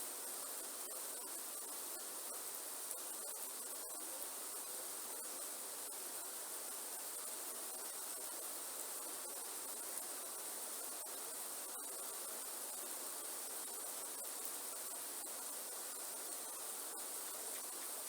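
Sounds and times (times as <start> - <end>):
rain in a forest: 0.0 - 18.0.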